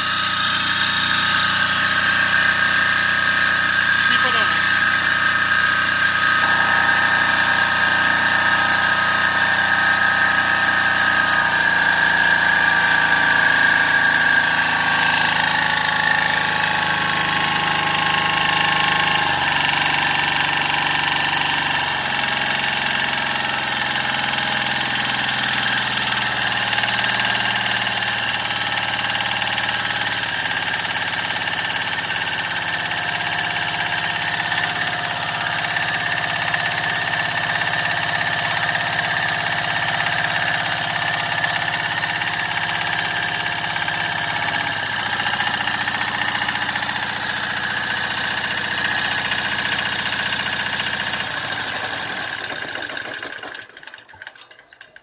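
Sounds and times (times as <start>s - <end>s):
generator diesel engine running: 0.0s - 55.0s.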